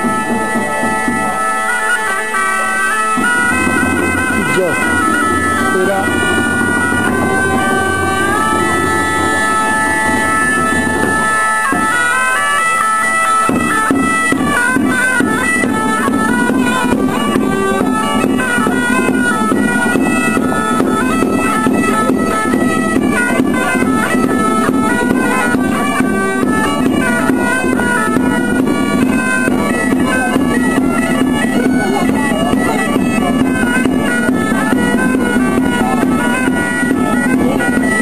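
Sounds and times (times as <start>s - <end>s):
bagpipe music: 0.0s - 38.0s.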